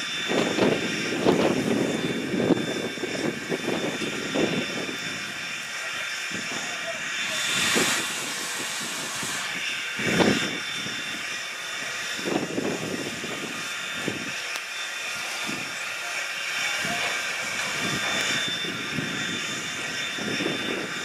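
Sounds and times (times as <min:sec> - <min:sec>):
low steam puffs: 0:00.0 - 0:21.0
steam locomotive hissing: 0:00.0 - 0:21.0.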